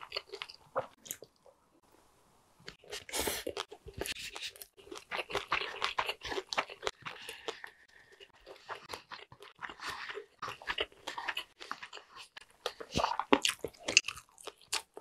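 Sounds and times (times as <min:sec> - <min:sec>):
person chewing food: 0:00.0 - 0:01.5, 0:02.6 - 0:15.0.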